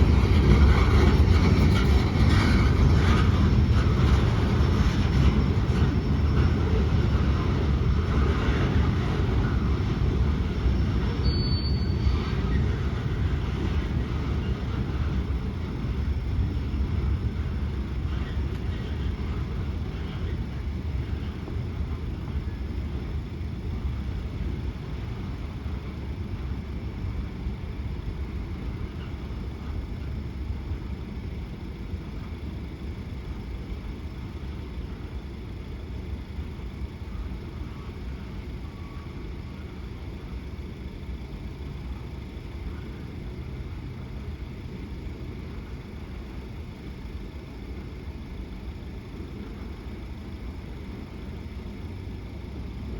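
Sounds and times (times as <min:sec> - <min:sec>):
freight train rumbling by: 0:00.0 - 0:52.9.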